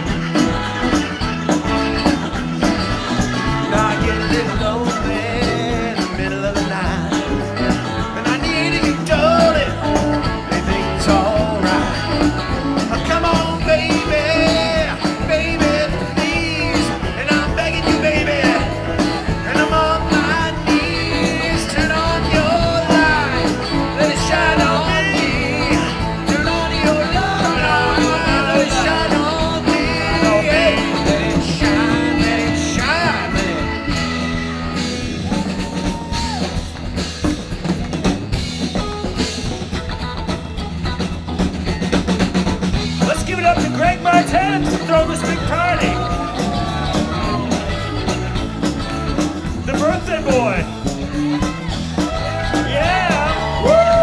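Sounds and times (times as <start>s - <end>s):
person singing lead vocal: 0.0s - 34.4s, 43.0s - 48.1s, 49.6s - 54.0s
rock band playing: 0.0s - 54.0s.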